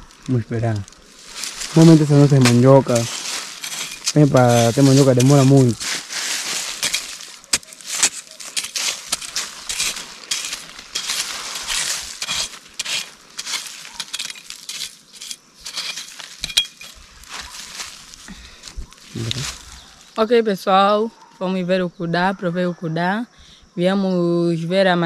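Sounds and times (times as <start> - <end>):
hands scraping dry leaves and soil: 0.0 - 20.2.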